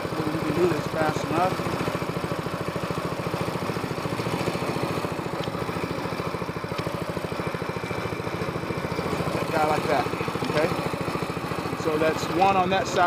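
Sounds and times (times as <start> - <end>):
small outboard motor running: 0.0 - 13.0.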